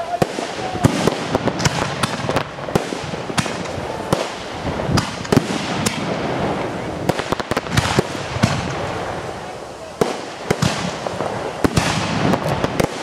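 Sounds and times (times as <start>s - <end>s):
continuous background noise: 0.0s - 13.0s
fireworks bursting: 0.0s - 13.0s.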